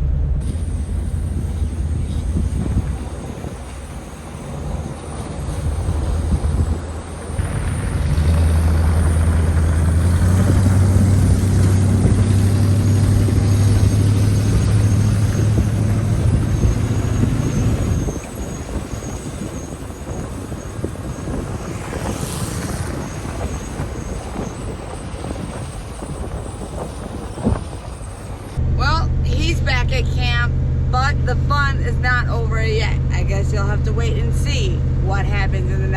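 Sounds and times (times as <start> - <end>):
truck engine running under load: 0.0 - 35.9.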